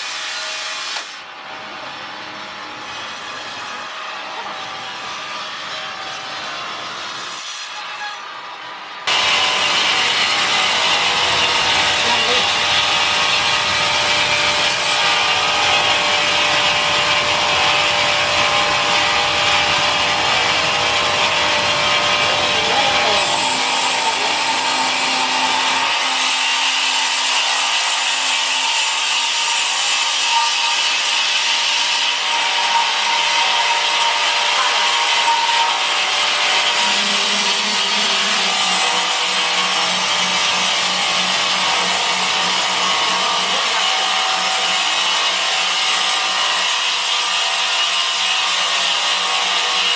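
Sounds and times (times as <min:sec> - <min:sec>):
power saw rasping: 0:02.3 - 0:08.4, 0:09.0 - 0:49.9.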